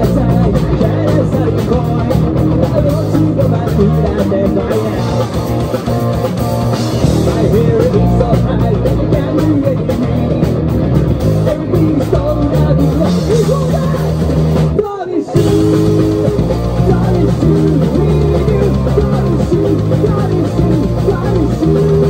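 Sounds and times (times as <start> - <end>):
person singing: 0.0 - 5.8, 6.9 - 22.0
bass guitar: 0.0 - 22.0
drums: 0.0 - 22.0
electric guitar: 0.0 - 22.0.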